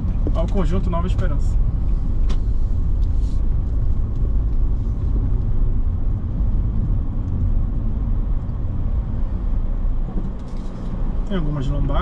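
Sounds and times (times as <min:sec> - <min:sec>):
vehicle driving on road: 0:00.0 - 0:12.0.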